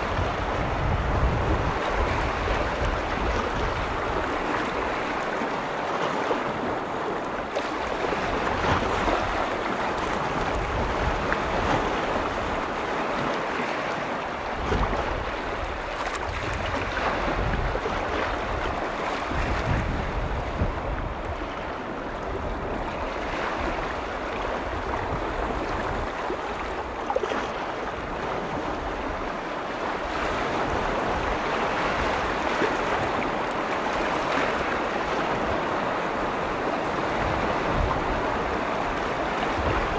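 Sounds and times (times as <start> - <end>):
lake waves washing in: 0.0 - 39.9
wind rumbling on microphone: 0.0 - 39.9.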